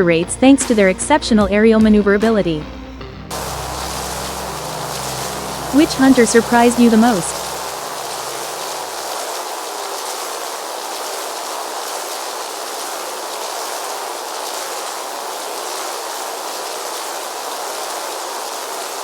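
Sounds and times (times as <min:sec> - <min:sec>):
rain-like hiss: 0:03.3 - 0:19.0.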